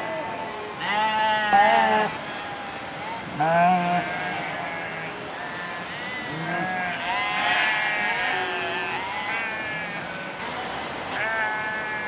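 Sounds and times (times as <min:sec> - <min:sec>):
sheep bleating: 0:00.0 - 0:10.3, 0:11.1 - 0:12.0.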